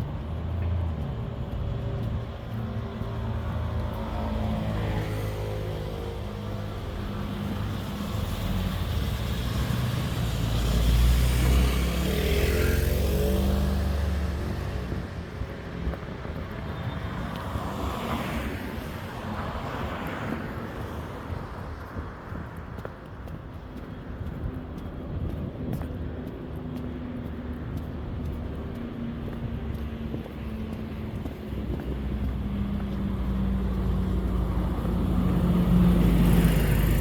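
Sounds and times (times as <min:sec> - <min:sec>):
tyre and engine noise: 0:00.0 - 0:37.0
vehicles passing close by: 0:00.0 - 0:37.0.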